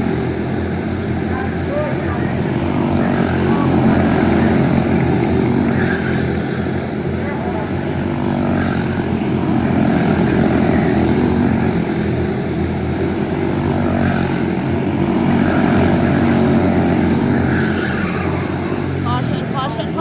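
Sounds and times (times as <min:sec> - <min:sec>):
go-kart engine running: 0:00.0 - 0:20.0.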